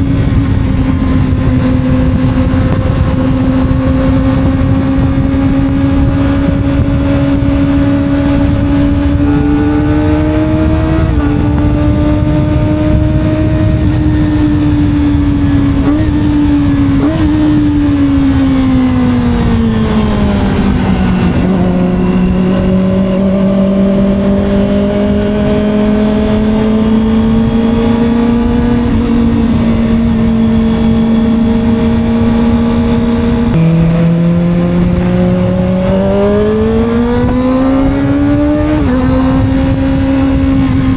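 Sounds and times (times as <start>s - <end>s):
motorcycle engine revving: 0.0s - 40.9s
wind noise: 0.0s - 40.9s.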